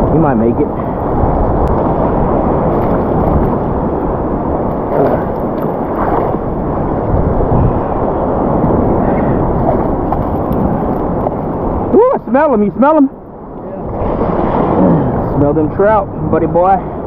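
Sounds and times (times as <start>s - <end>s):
muffled ocean surf churning: 0.0s - 17.0s.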